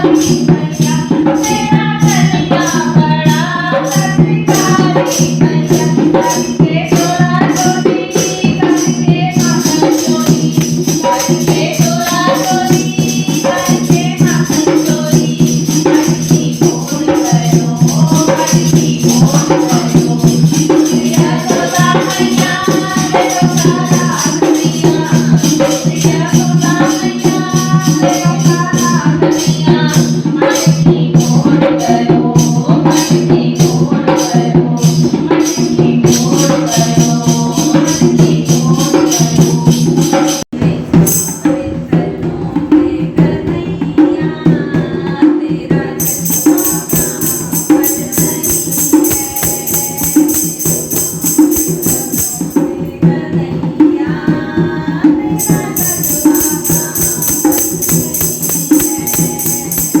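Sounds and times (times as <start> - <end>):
jingling hand percussion: 0.0 - 60.0
woman singing: 0.0 - 60.0.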